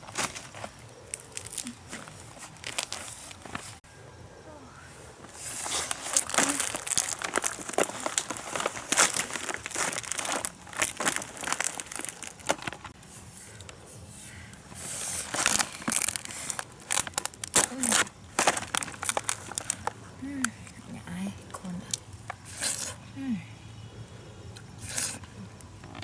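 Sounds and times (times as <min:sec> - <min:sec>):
crinkling and crackling: 0:00.0 - 0:03.8, 0:05.2 - 0:23.0.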